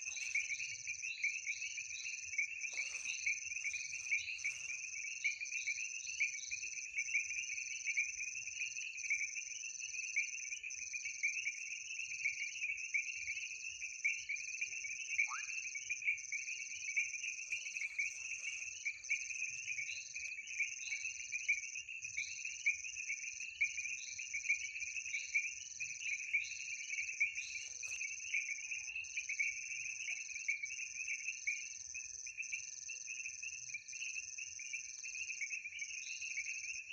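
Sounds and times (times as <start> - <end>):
rapid chirping of crickets and frogs: 0.0 - 36.9.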